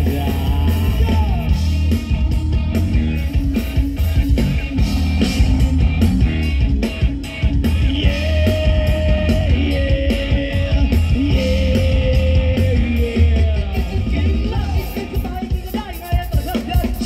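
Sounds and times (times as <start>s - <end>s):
bass guitar: 0.0s - 17.0s
drums: 0.0s - 17.0s
electric guitar: 0.0s - 17.0s.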